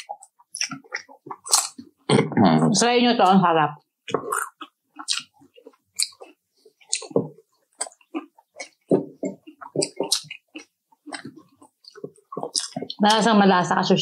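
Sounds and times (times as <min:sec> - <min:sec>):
chewing crispy food: 0:00.0 - 0:02.2, 0:04.0 - 0:13.3.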